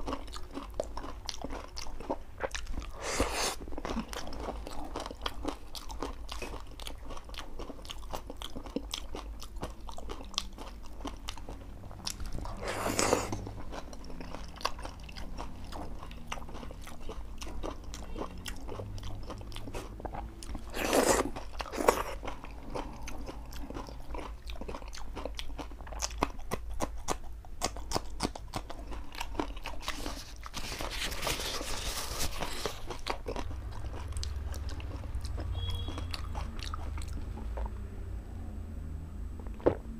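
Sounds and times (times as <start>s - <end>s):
wet chewing and lip-smacking: 0.0s - 37.8s.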